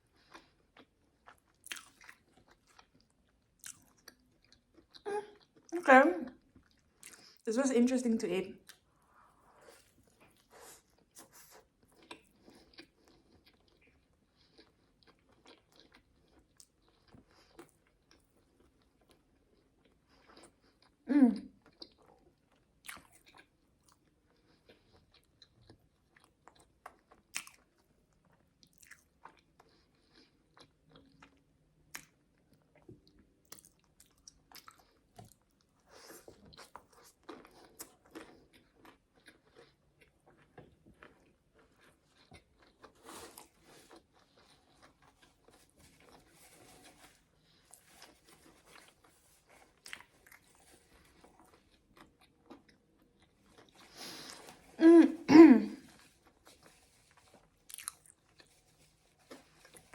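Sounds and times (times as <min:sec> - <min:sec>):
close chewing and biting food: 0:00.0 - 0:05.7, 0:06.3 - 0:07.4, 0:08.6 - 0:54.8, 0:55.8 - 0:59.9.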